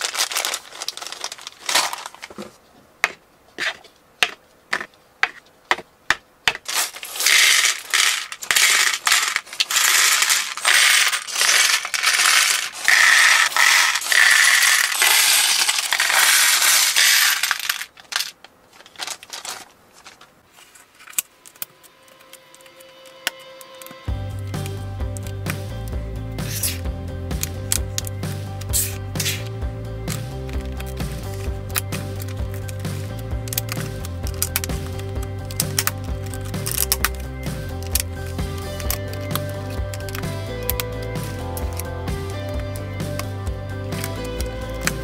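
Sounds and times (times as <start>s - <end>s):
plastic bricks clattering: 0.0s - 21.7s, 30.1s - 45.0s.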